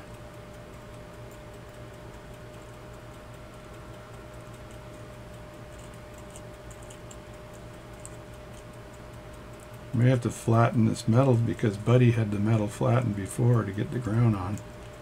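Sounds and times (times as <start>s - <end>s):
steady low hum: 0.0s - 15.0s
pocket watch ticking: 0.3s - 15.0s.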